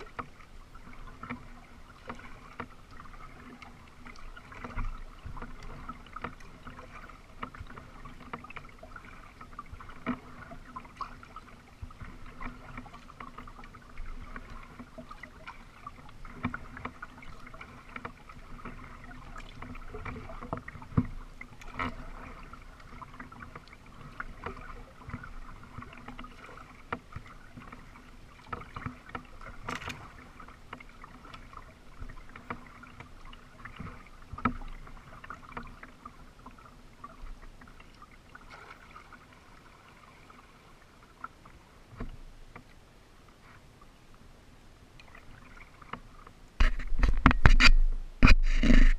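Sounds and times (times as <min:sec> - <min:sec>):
paddle dipping and dripping: 0:00.0 - 0:48.9.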